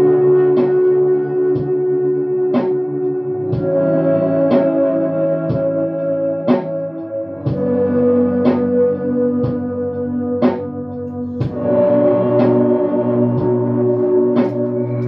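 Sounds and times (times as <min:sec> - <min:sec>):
reverb-drenched electric guitar chords: 0:00.0 - 0:15.0.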